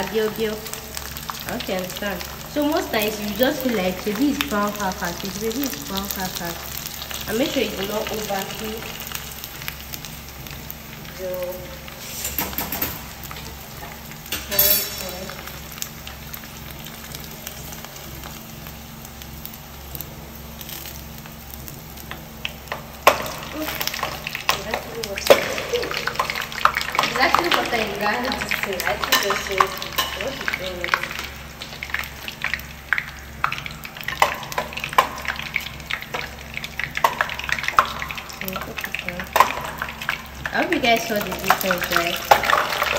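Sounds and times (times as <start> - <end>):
crackers sizzling in hot oil: 0.0 - 42.9.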